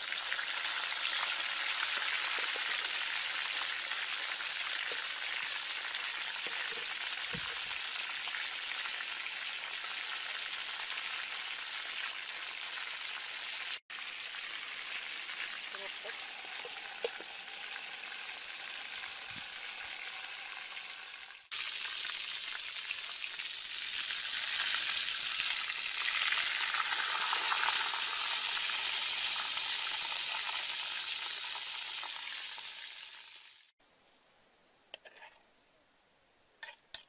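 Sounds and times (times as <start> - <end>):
chicken sizzling in hot oil: 0.0 - 33.7.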